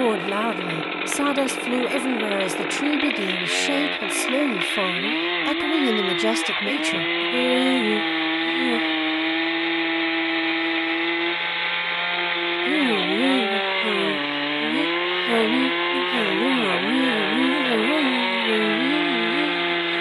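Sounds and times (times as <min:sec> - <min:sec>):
chainsaw cutting at high revs: 0:00.0 - 0:20.0.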